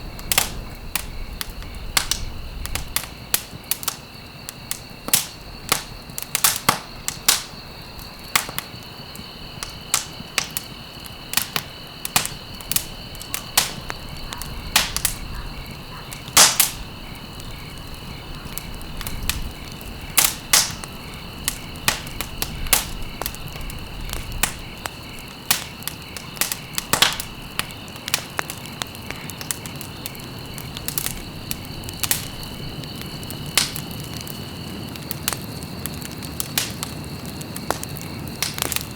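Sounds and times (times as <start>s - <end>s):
rushing of flames: 0.0s - 38.9s
wood fire crackling and popping: 0.0s - 38.9s.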